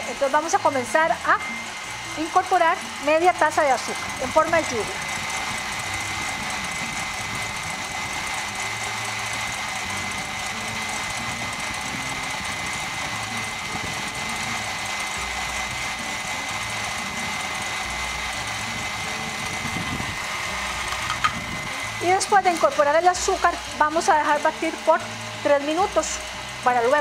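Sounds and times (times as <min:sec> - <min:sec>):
stand mixer motor whine: 0:00.0 - 0:27.0
whisk beating egg whites: 0:00.0 - 0:27.0.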